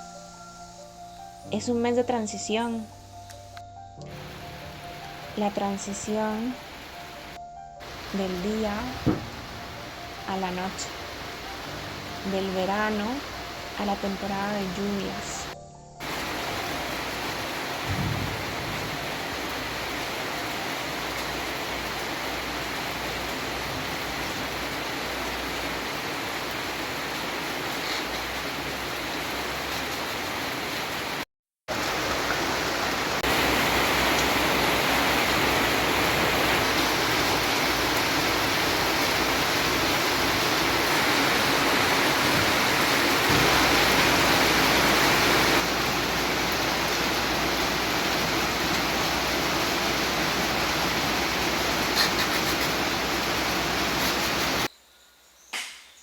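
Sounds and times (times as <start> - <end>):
rushing water hiss: 4.1 - 54.7.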